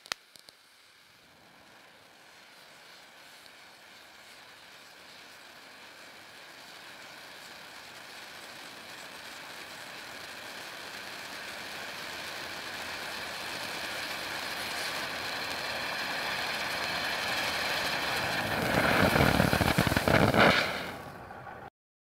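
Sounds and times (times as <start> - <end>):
firework crackling: 0.0 - 21.7
firework fountain hissing: 0.0 - 21.7.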